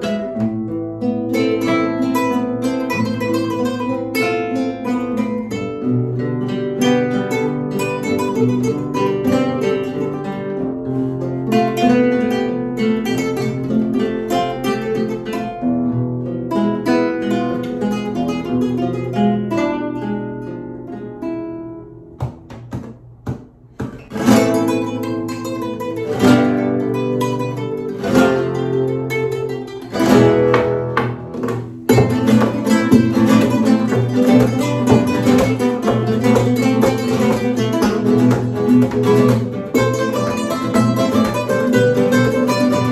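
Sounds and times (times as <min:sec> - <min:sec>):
nylon-string guitars playing: 0:00.0 - 0:42.9.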